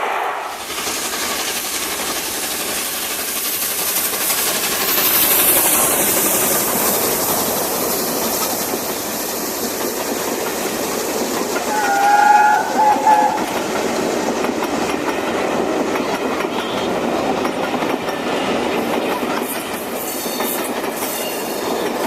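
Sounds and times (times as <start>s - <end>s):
steam hiss: 0.0s - 15.9s, 18.1s - 22.0s
steam locomotive running: 0.0s - 22.0s.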